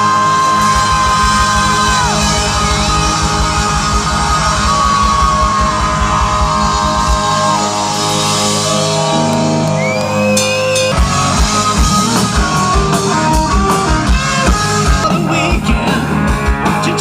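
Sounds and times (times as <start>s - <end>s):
electric guitar bending notes: 0.0s - 17.0s
live rock band playing: 0.0s - 17.0s.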